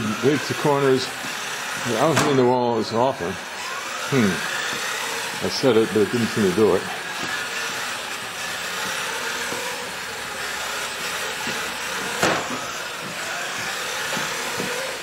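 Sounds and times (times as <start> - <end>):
radio-control car motor running: 0.0 - 15.0.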